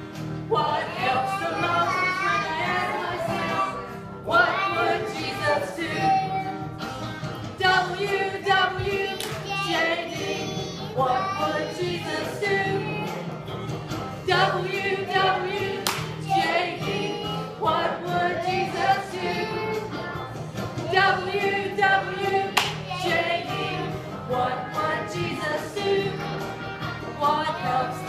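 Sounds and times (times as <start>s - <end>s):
adults singing along: 0.4s - 6.8s, 7.4s - 13.5s, 14.2s - 28.0s
children singing on microphones: 0.5s - 6.7s, 7.5s - 13.3s, 14.3s - 28.0s.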